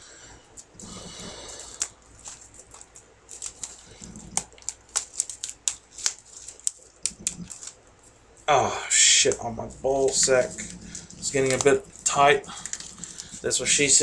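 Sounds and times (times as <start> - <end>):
plastic shrink wrap crackling: 0.6 - 14.0.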